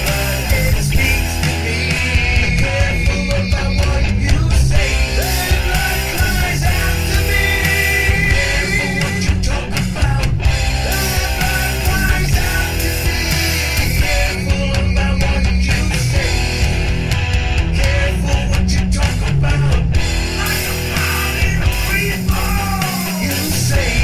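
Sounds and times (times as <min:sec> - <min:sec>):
loud rock music with guitar: 0:00.0 - 0:24.0.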